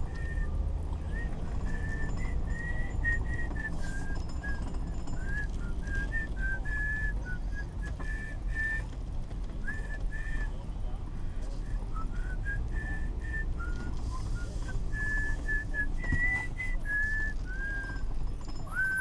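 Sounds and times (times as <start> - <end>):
truck engine and tyres humming: 0.0 - 19.0
person whistling a tune: 0.1 - 8.9, 9.6 - 10.6, 11.7 - 19.0.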